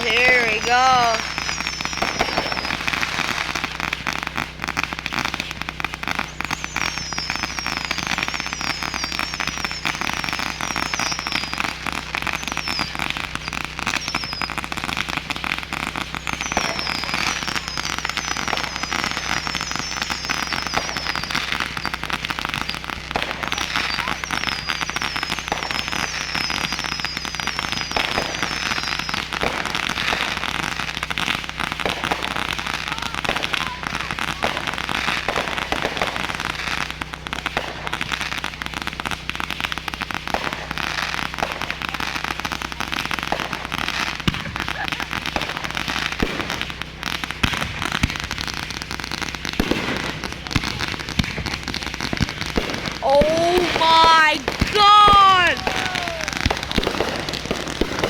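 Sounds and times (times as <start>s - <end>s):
fireworks crackling and popping: 0.0s - 58.0s
fireworks whistling: 0.0s - 58.0s.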